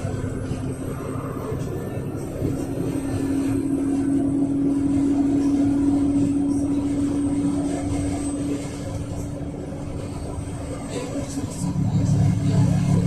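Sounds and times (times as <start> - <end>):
bus running rumble: 0.0 - 13.0
steady whine: 0.0 - 13.0.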